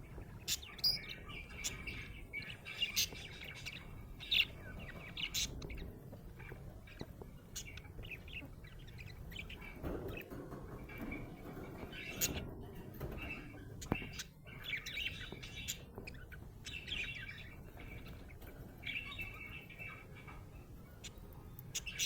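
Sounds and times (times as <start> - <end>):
budgerigar chirping and warbling: 0.1 - 10.2, 13.0 - 22.0.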